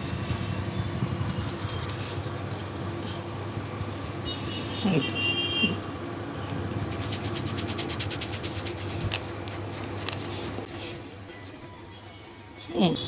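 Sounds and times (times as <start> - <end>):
hands rubbing hair and skin: 0.0 - 12.6.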